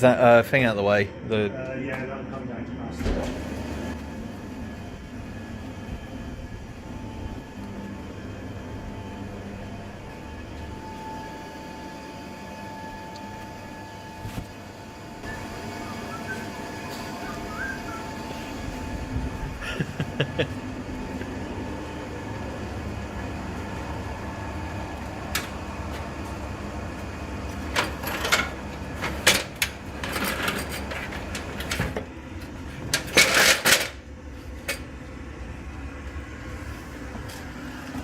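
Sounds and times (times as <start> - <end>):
diesel air heater humming: 0.0 - 38.0.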